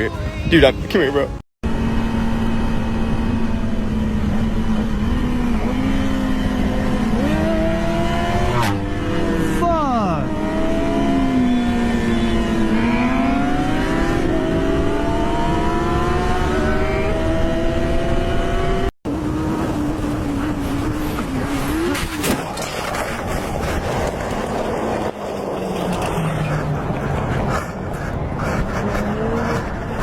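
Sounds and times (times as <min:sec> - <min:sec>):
riding noise: 0:00.0 - 0:30.0
motorcycle engine accelerating: 0:01.6 - 0:30.0.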